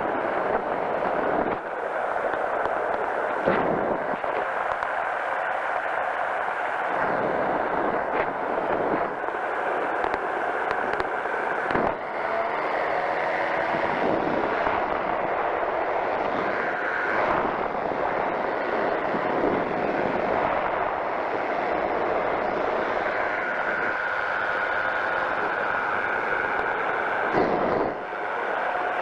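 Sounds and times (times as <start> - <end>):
engine and propeller running: 0.0 - 29.0.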